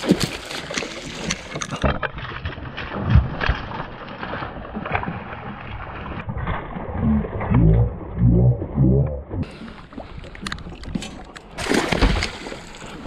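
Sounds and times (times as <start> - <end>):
fish thrashing and splashing: 0.0 - 7.5, 9.4 - 13.0.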